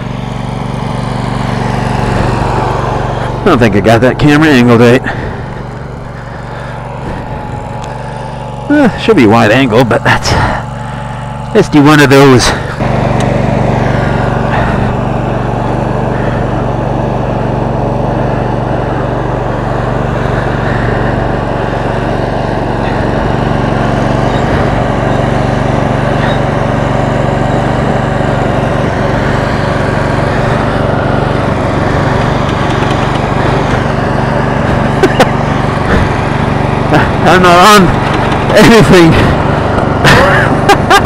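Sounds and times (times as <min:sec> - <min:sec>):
lawn tractor engine running: 0:00.0 - 0:41.0.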